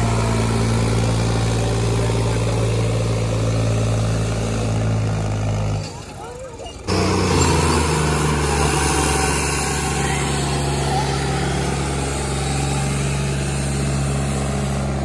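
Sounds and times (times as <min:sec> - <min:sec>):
diesel tractor engines straining: 0:00.0 - 0:15.0.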